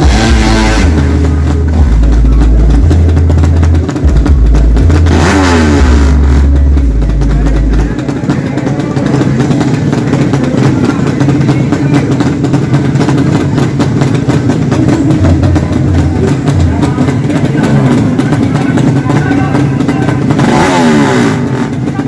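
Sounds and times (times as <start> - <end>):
motorcycle engines running: 0.0 - 22.0.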